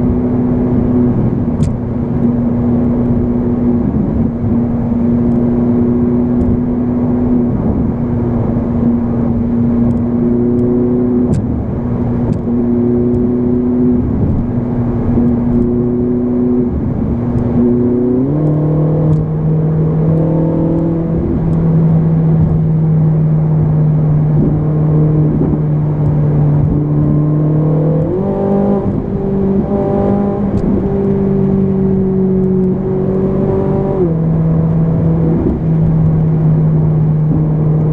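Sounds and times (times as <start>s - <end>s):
car engine drone from cabin: 0.0s - 37.9s.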